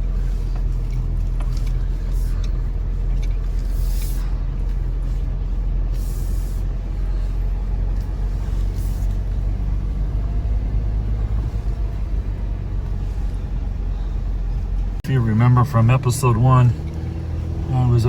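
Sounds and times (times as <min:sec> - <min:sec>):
pickup engine and road rumble: 0:00.0 - 0:18.0.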